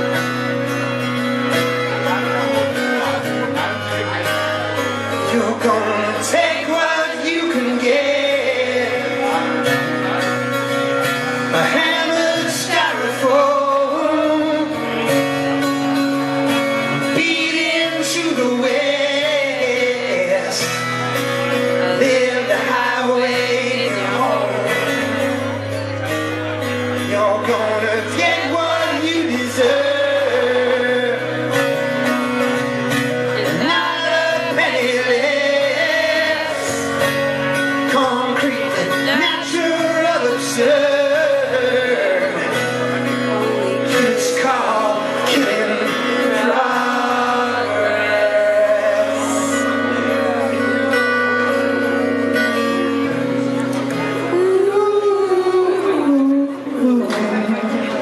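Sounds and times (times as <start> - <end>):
man singing: 0.0 - 58.0
strummed twelve-string guitar: 0.0 - 58.0.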